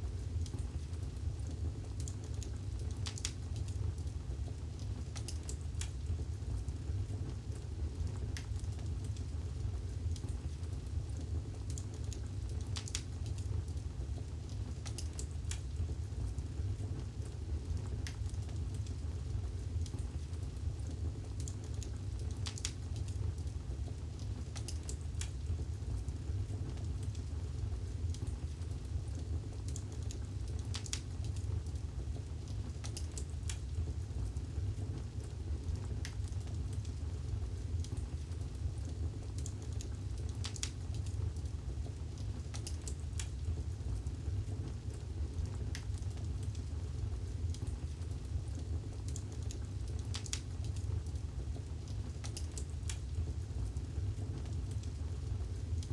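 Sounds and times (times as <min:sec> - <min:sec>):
fire crackling and popping: 0:00.0 - 0:55.9
fire low rumble: 0:00.0 - 0:55.9.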